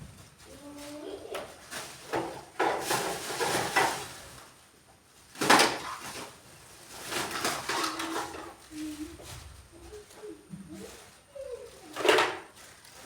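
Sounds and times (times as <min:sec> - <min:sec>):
scraping and rustling movements: 0:00.0 - 0:13.0.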